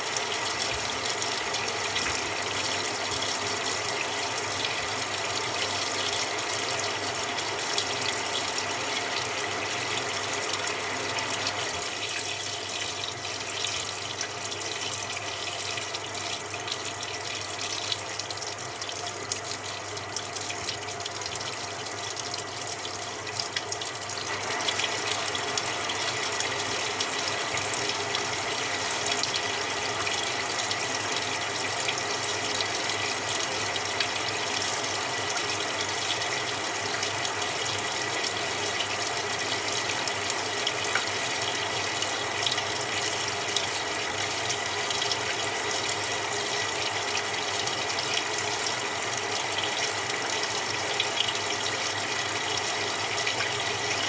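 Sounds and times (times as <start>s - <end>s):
water pouring into washing machine: 0.0s - 54.0s.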